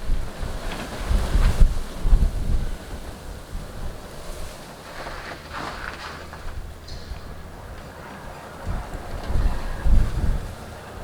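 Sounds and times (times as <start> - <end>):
wind gusting across microphone: 0.0 - 11.0.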